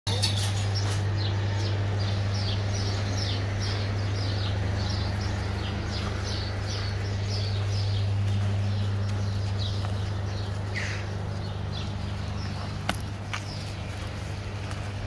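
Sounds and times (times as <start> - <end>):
small birds chirping: 0.1 - 15.0
steady low hum: 0.1 - 15.0.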